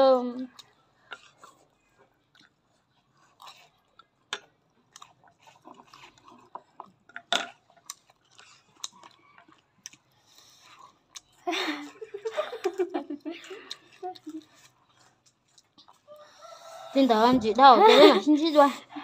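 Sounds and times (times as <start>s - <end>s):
chewing noodles: 0.0s - 17.2s.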